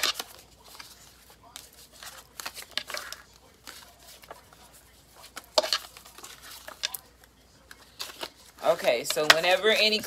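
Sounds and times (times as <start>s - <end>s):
paper cards rustling and clicking: 0.0s - 10.0s.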